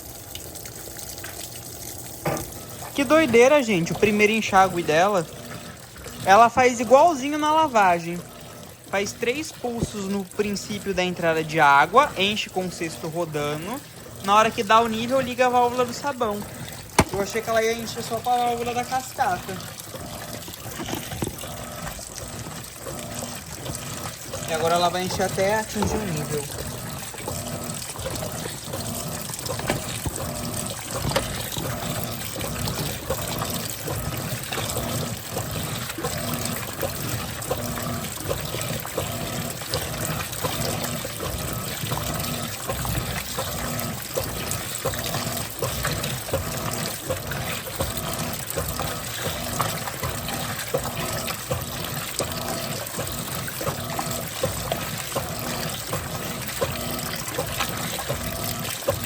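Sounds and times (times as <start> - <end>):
water splashing into washing machine: 0.0 - 59.0.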